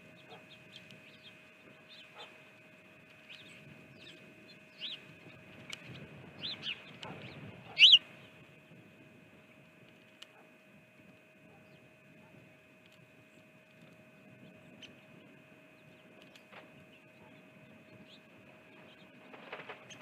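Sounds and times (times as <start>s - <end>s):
small birds chirping: 0.0s - 8.4s, 11.4s - 20.0s.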